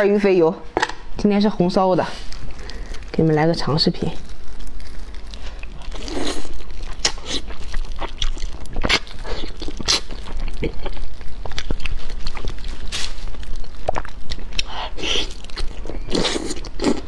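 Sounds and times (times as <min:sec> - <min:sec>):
chewing food: 0:02.2 - 0:17.0.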